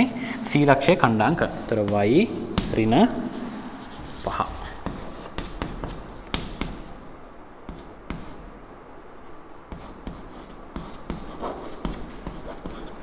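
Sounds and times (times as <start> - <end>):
chalk tapping and scratching: 1.4 - 6.9, 7.7 - 13.0.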